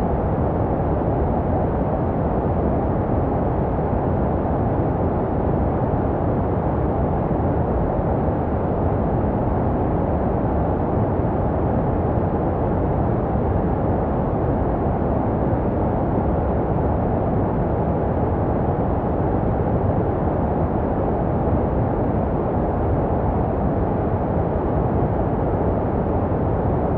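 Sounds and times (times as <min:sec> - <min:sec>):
deep muffled white noise: 0:00.0 - 0:26.9.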